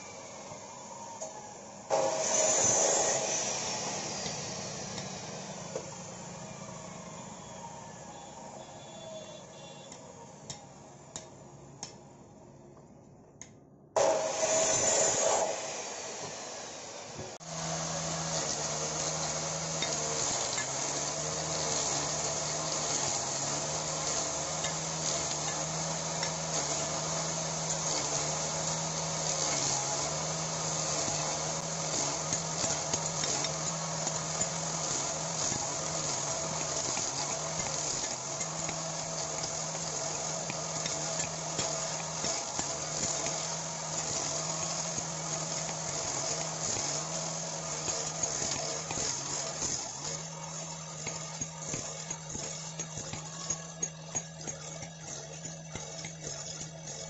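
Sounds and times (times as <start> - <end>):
cut-off saw winding down: 0.0 - 10.8, 14.0 - 57.0
wood-carving machine shaving log: 0.0 - 11.3, 14.0 - 57.0.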